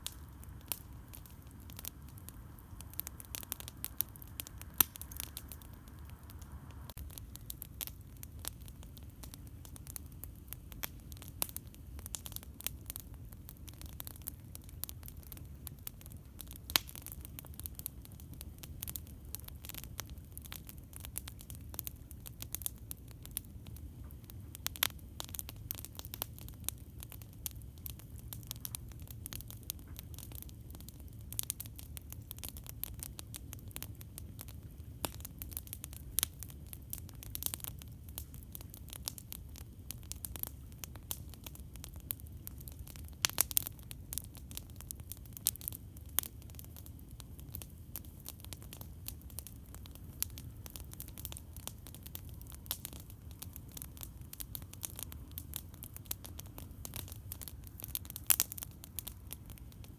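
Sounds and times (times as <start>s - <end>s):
campfire crackling and popping: 0.0s - 59.9s
low fire rumble: 0.0s - 59.9s.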